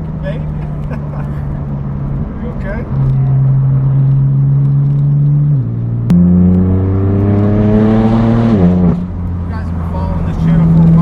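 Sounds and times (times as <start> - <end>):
car engine accelerating: 0.0 - 11.0
exhaust crack: 2.0 - 11.0.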